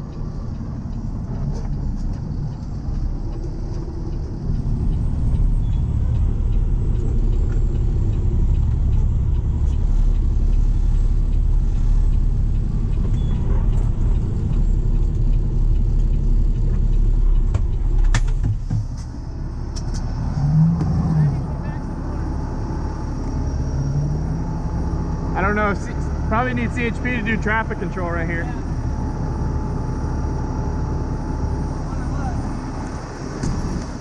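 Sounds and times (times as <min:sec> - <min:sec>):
road noise: 0:00.0 - 0:34.0
vehicle engine rumbling: 0:00.0 - 0:34.0.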